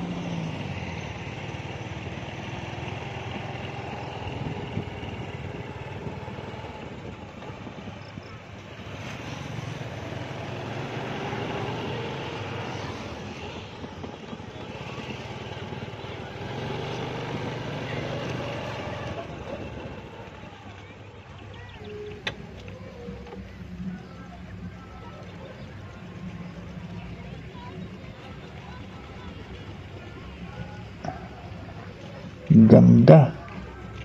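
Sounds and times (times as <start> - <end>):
vehicle engine running: 0.0 - 34.0
wind and road noise: 0.0 - 34.0.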